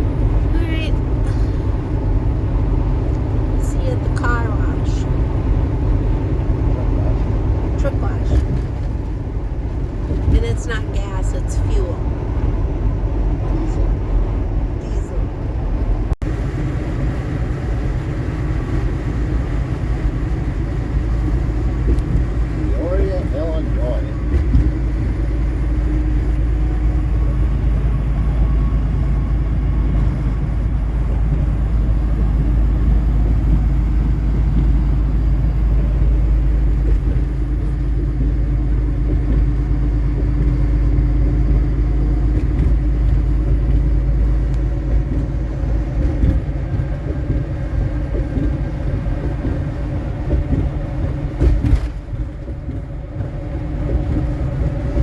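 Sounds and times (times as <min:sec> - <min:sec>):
diesel engine and road drone: 0:00.0 - 0:55.0.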